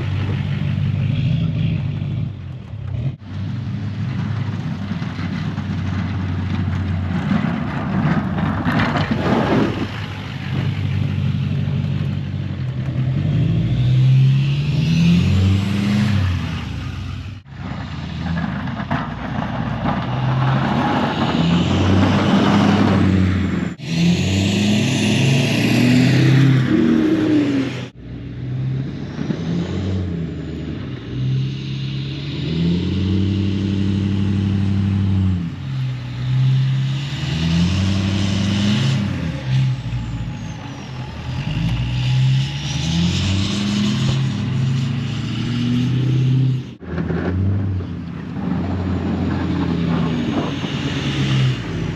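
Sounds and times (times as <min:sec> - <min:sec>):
truck engine revving: 0:00.0 - 0:51.9.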